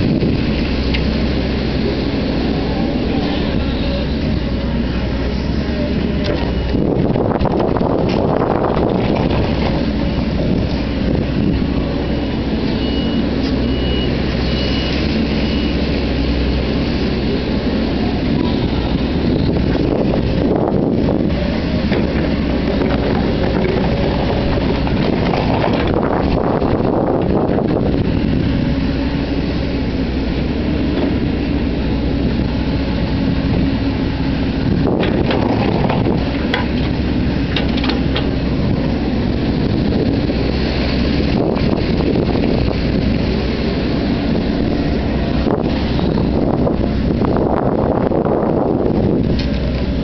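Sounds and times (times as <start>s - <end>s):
excavator engine and hydraulics: 0.0s - 50.0s
wind buffeting microphone: 0.0s - 50.0s.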